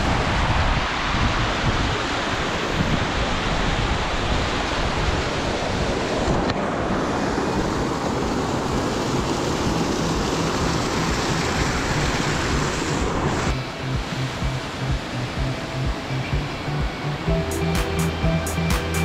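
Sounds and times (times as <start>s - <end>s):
wind buffeting microphone: 0.0s - 17.0s
waterfall rushing over rock: 0.0s - 19.0s.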